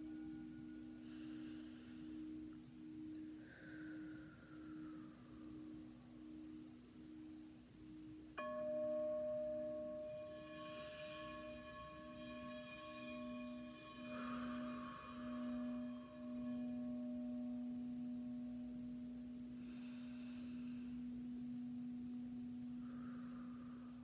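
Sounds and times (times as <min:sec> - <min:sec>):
bell-like shimmers: 0:00.0 - 0:24.0
sustained pure tone: 0:00.0 - 0:24.0.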